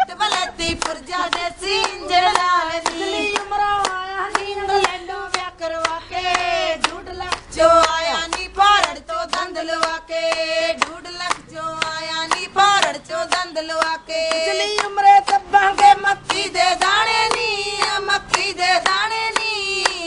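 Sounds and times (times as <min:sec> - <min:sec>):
rhythmic hand claps: 0:00.0 - 0:20.0
women singing long held lines: 0:00.0 - 0:20.0.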